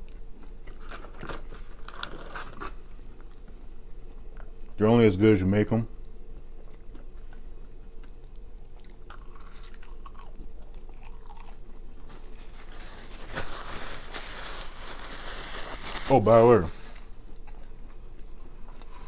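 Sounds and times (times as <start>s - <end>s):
person chewing crunchy food: 0.0s - 4.8s, 6.0s - 19.0s.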